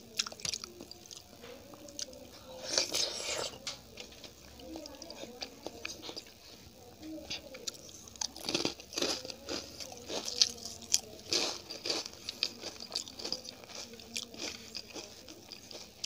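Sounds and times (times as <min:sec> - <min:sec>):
crunching fried food: 0:00.0 - 0:16.0.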